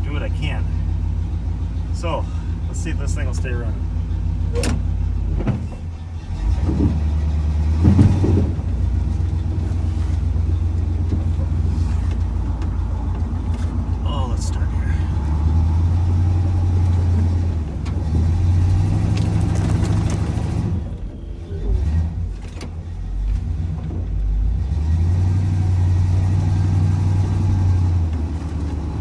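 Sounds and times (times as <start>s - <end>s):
truck engine revving under load: 0.0s - 29.0s.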